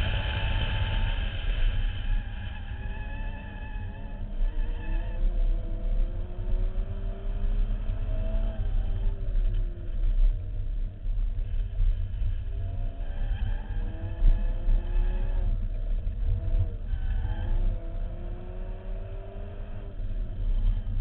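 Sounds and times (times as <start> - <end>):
car engine revving: 0.0 - 10.8, 11.4 - 21.0
wind rumble on microphone: 0.0 - 21.0.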